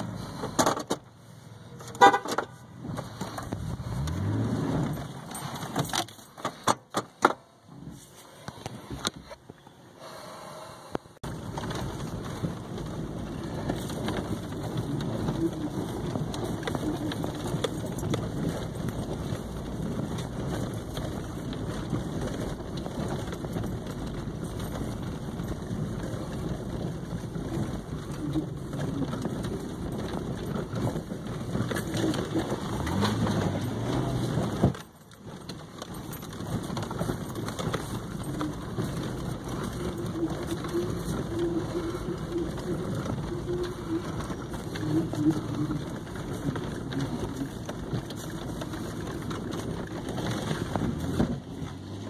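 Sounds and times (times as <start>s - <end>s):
tyres crunching on dirt: 0.0s - 10.1s, 11.2s - 52.0s
vehicle engine hum: 0.0s - 52.0s.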